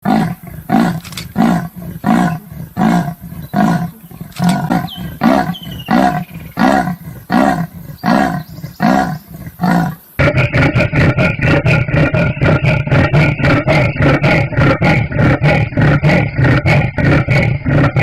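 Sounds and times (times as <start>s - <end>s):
leopard rasping grunts: 0.0s - 18.0s.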